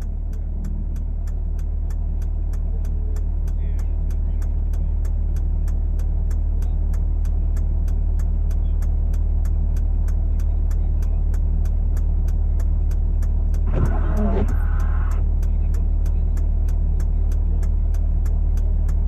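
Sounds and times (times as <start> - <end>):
faint regular ticking: 0.0 - 19.0
vehicle engine and road drone: 0.0 - 19.0.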